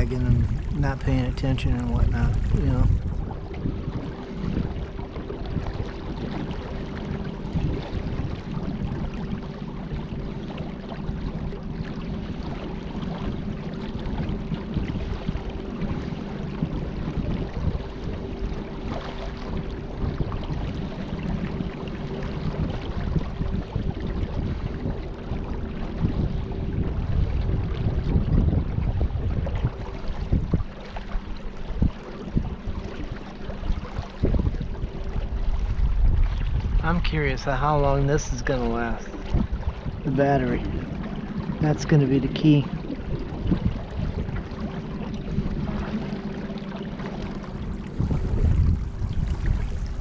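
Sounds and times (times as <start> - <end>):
rushing water: 0.0 - 50.0
wind: 0.0 - 50.0.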